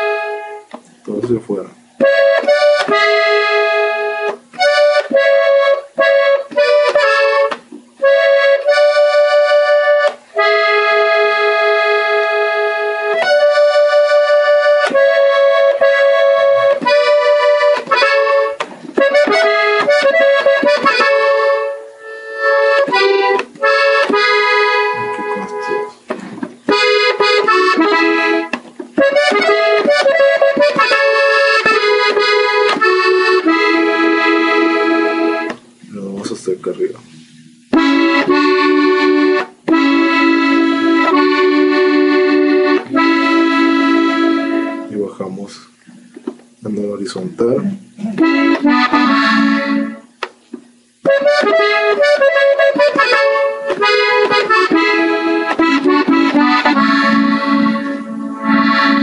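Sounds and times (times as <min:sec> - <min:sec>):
button accordion slow melody: 0:00.0 - 0:36.5, 0:37.1 - 0:45.1, 0:47.6 - 0:59.0.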